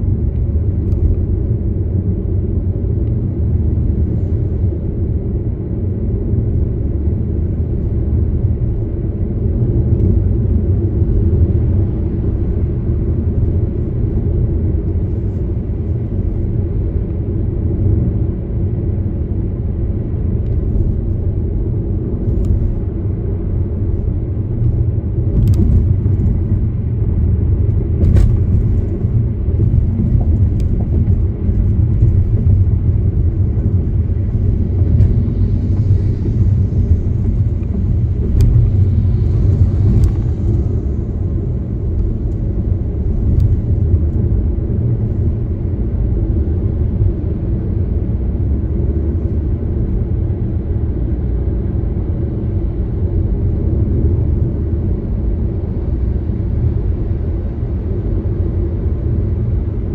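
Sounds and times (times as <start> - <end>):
car interior road rumble: 0.0 - 59.9.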